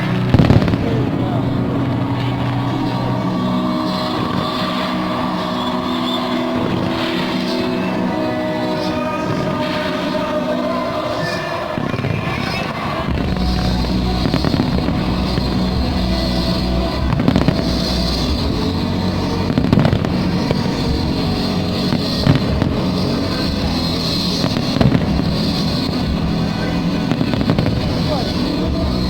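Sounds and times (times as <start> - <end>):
fireworks bursting: 0.0 - 29.0
loud music: 0.0 - 29.0.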